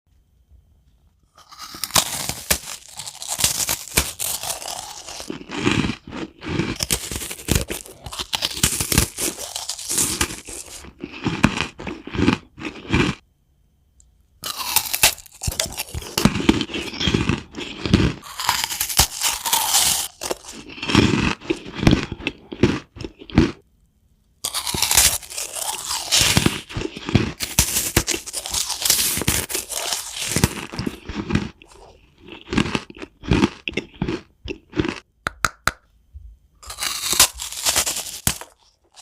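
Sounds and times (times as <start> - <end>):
crunching and crackling with clicks: 1.1 - 13.2, 14.0 - 35.8, 36.6 - 39.0.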